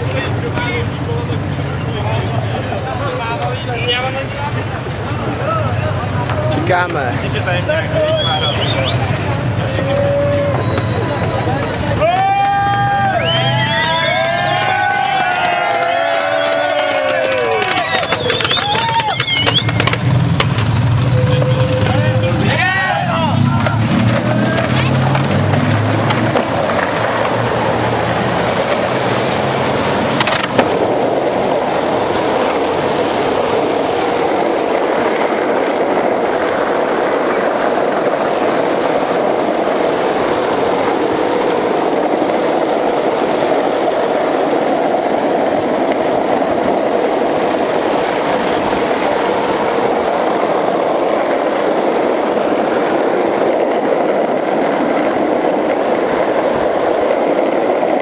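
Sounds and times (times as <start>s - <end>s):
skateboard wheels rolling on asphalt: 0.0s - 58.0s.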